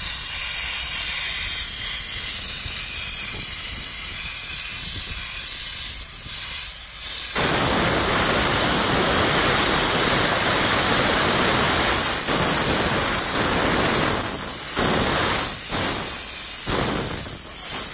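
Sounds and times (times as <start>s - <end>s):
soda-blasting nozzle hissing: 0.0s - 17.9s.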